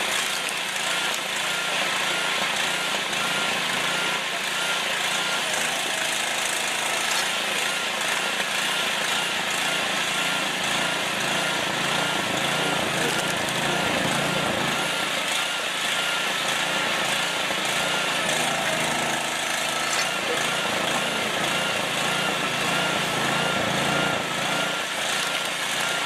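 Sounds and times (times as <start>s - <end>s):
firewood cutting machine running: 0.0s - 26.0s.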